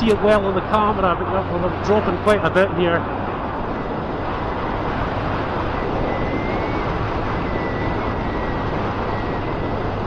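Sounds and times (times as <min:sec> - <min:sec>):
motorcycle engine droning: 0:00.0 - 0:10.0
wind rushing: 0:00.0 - 0:10.0.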